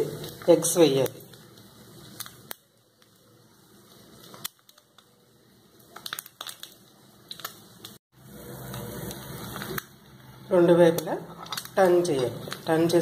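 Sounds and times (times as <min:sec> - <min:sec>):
eggs sizzling in oil: 0:00.0 - 0:13.0
oil popping and crackling: 0:00.0 - 0:13.0.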